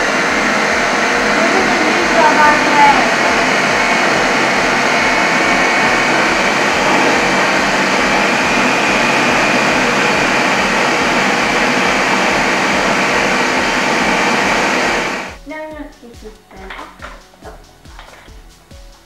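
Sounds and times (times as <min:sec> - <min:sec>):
food processor running: 0:00.0 - 0:15.4.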